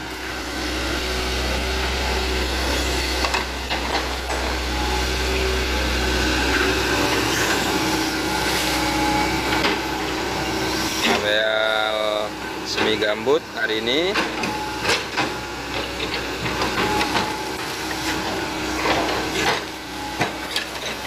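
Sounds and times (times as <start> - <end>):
excavator engine hum: 0.0 - 21.0
excavator hydraulic whine: 0.0 - 21.0.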